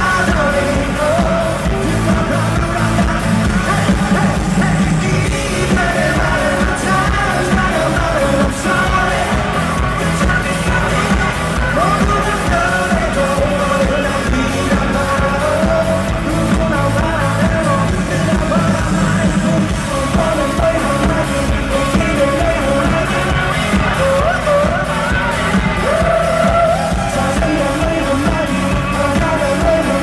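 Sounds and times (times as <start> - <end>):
person singing: 0.0 - 30.0
pop-rock band music: 0.0 - 30.0.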